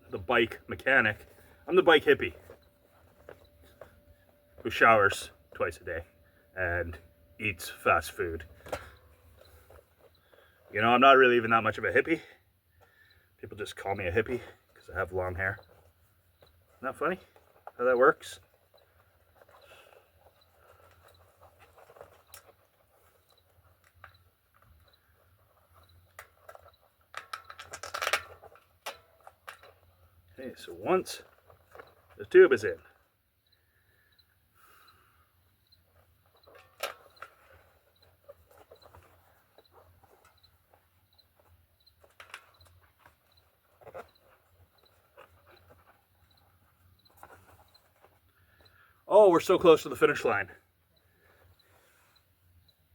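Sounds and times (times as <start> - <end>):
crinkly rustling: 0.0 - 12.0, 12.7 - 34.8, 35.8 - 52.9.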